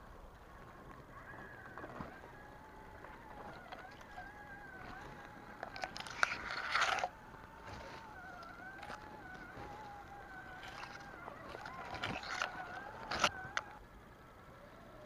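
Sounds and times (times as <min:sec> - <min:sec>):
grass rustling: 0:00.0 - 0:13.8
toy truck electric motor whining: 0:01.1 - 0:13.9.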